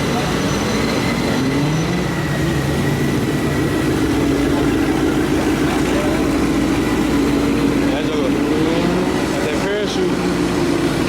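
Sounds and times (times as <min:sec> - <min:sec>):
car engine running: 0:00.1 - 0:11.0.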